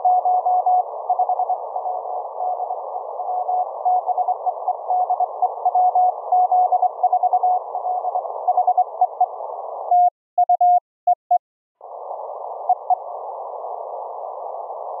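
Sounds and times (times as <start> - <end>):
radio band hiss: 0.0 - 9.9, 11.8 - 15.0.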